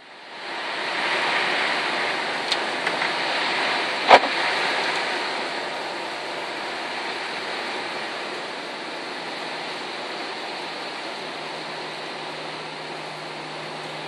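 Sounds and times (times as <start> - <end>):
rushing noise inside moving car: 0.0 - 14.0.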